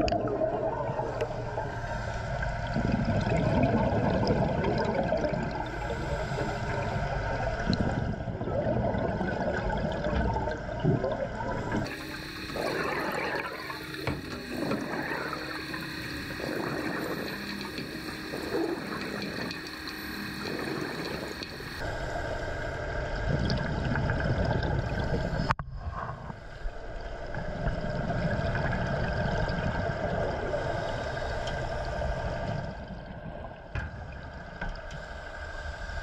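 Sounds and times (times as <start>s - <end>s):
water sloshing and gurgling: 0.0s - 36.0s.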